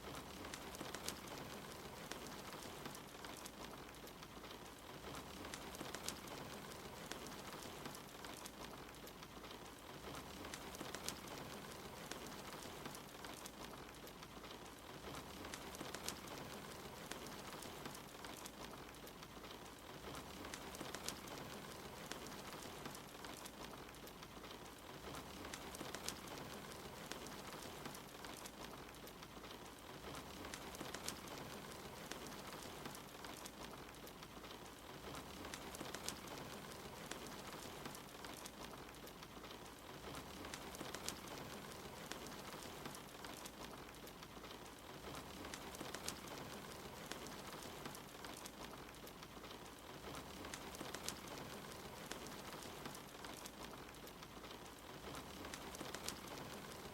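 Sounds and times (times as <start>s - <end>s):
rain hiss: 0.0s - 56.9s
wood fire crackling: 0.0s - 56.9s.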